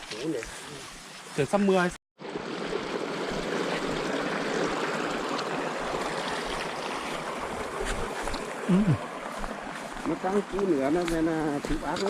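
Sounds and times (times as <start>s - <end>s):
flowing water rushing: 2.2s - 12.0s.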